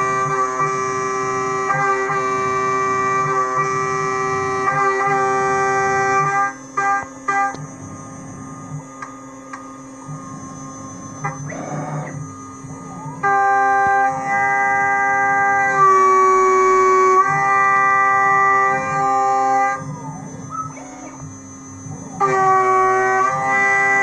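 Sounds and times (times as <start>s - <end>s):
end mill cutting whine: 0.0s - 24.0s.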